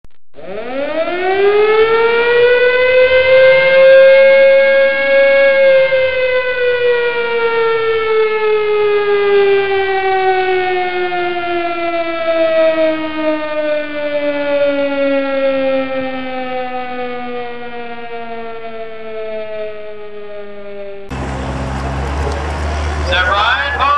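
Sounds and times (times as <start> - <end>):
siren: 0.3 - 23.9.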